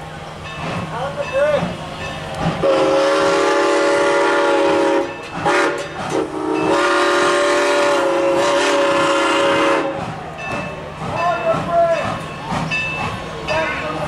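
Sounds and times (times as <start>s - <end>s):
steam locomotive chime whistle: 2.6s - 14.0s.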